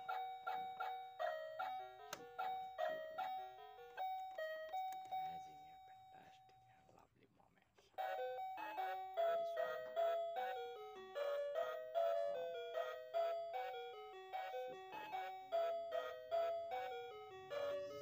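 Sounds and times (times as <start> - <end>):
bouncy melody of ringing notes: 0.0 - 6.4, 8.0 - 18.0.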